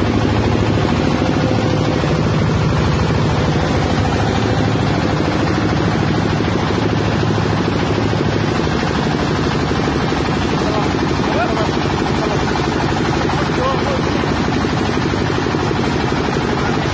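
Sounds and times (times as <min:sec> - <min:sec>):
grinding mill mechanical drone: 0:00.0 - 0:16.9.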